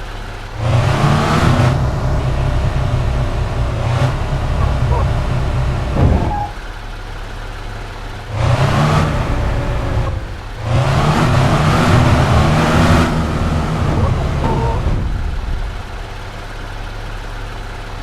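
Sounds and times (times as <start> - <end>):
vehicle engine revving: 0.5 - 6.9, 8.0 - 17.2.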